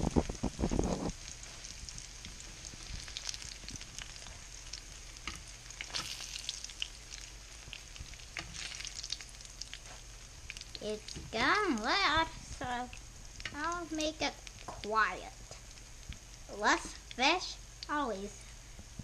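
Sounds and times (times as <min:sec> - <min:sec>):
fish frying in hot oil: 0:00.0 - 0:17.9.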